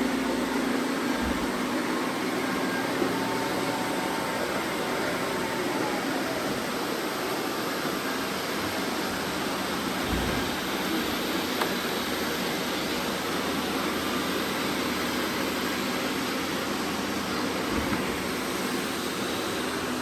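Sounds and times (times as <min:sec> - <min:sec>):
robot vacuum cleaners whirring: 0:00.0 - 0:20.0.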